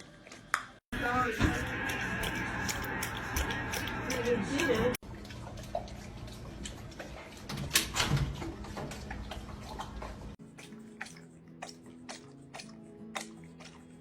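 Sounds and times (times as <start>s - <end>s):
dog lapping water: 1.0s - 14.0s.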